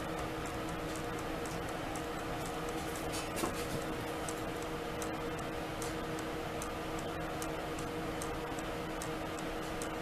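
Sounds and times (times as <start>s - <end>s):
light regular ticking: 0.0s - 10.0s
steady low hum: 0.0s - 10.0s.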